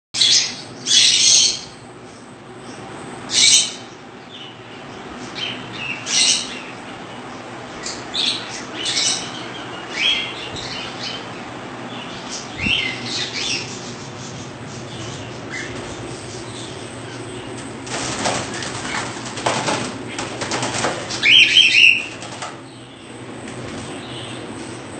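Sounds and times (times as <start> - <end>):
birds high-pitched calls: 0.2 - 24.9
low room hum: 0.2 - 24.9.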